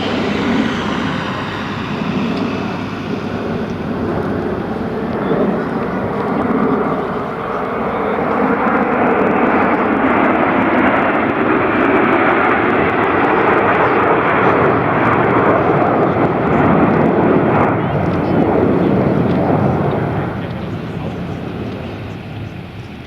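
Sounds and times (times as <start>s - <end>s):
jet flyby roar: 0.0s - 23.0s.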